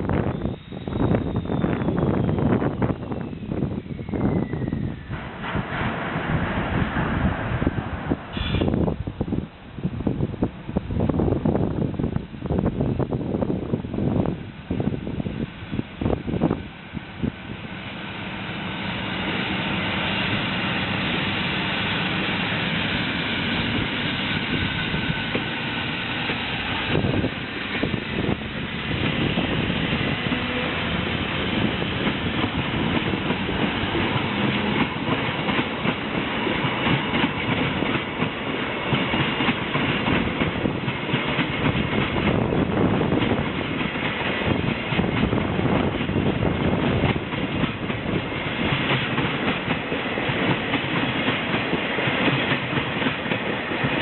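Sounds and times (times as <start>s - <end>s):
freight train rolling: 0.0s - 54.0s.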